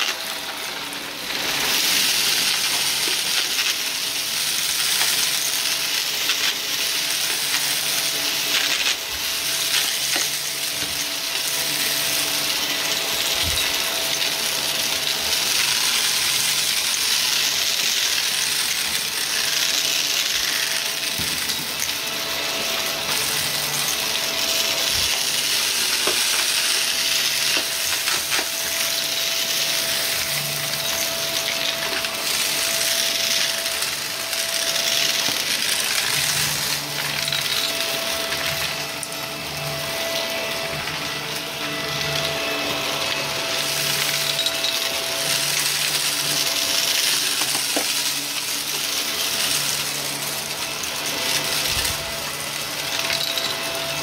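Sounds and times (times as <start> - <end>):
vacuum cleaner motor: 0.0 - 54.0.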